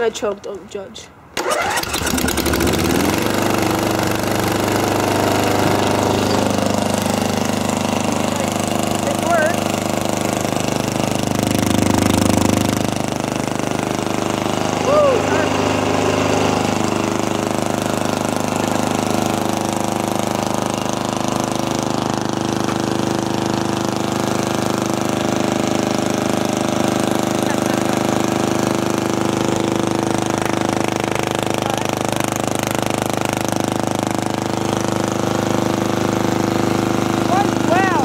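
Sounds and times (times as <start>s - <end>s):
loud mower engine running: 1.4s - 38.0s.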